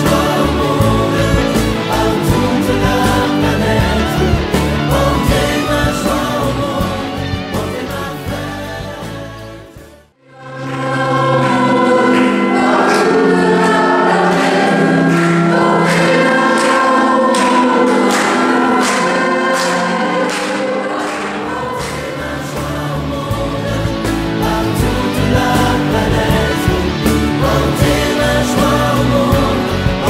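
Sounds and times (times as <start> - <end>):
choir singing a hymn: 0.0 - 30.0
sustained instrumental chords: 0.0 - 30.0.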